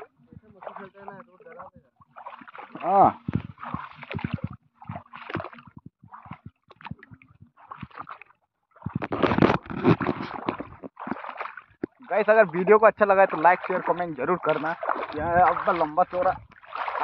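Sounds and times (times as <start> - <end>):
feet wading through shallow water: 0.0 - 17.0.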